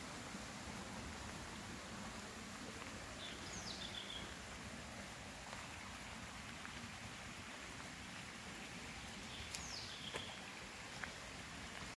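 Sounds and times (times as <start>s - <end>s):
low rumble and hiss: 0.0s - 11.9s.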